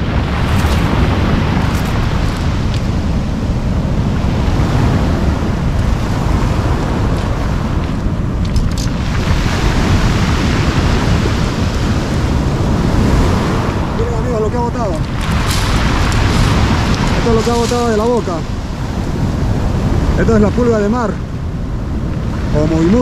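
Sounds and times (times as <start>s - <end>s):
surf washing onto pebbles: 0.0s - 23.0s
wind buffeting microphone: 0.0s - 23.0s.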